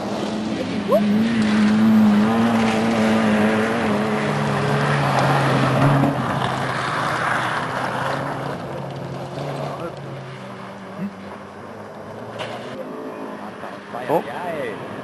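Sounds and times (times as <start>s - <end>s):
rally car engines running hard: 0.0s - 15.0s.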